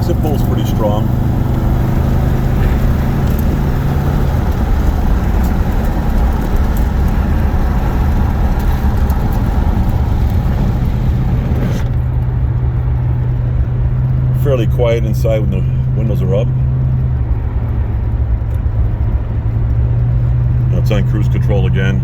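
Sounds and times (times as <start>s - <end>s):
car engine low hum: 0.0s - 22.0s
road and wind noise: 0.0s - 22.0s.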